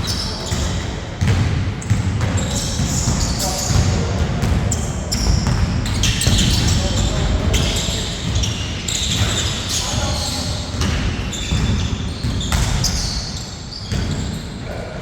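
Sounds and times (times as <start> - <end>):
players' voices: 0.0 - 12.2
basketball bouncing on court: 0.0 - 14.5.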